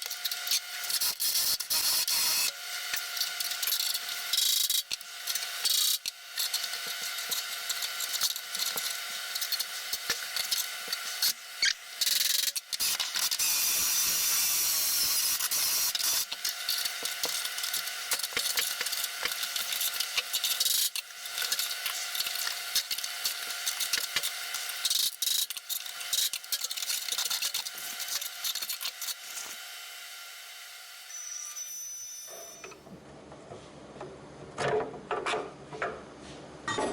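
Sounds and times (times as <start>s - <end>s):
power tool on sheet metal: 0.0s - 32.8s.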